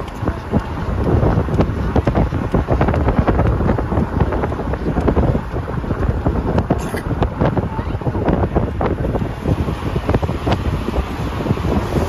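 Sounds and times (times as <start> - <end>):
train rumbling and rattling: 0.0 - 12.0
wind buffeting microphone: 0.0 - 12.0.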